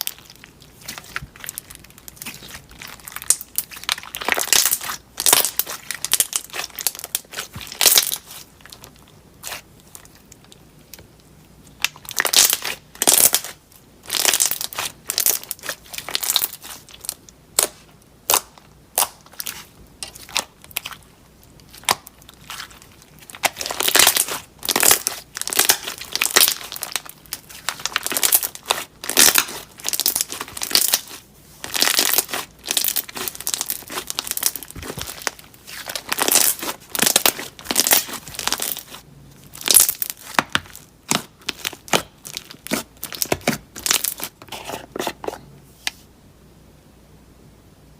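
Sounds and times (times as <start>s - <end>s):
slime squeezed crackling: 0.0s - 45.1s.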